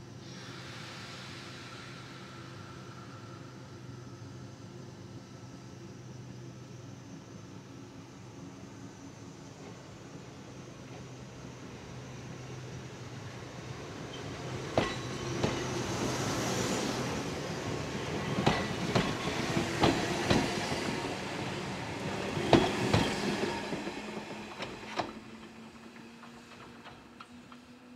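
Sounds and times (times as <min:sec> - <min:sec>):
electric train passing: 0:00.0 - 0:27.9.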